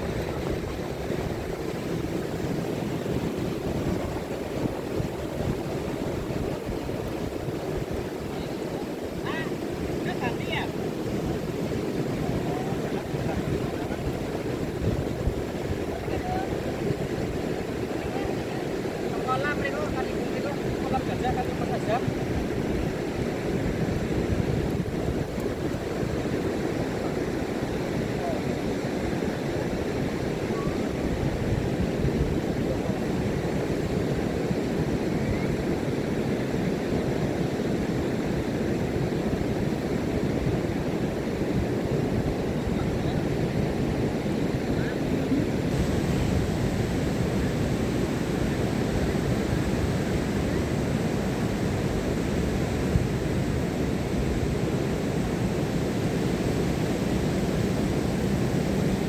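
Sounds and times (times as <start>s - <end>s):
ocean surf breaking: 0.0s - 59.0s
wind noise on microphone: 0.0s - 59.0s.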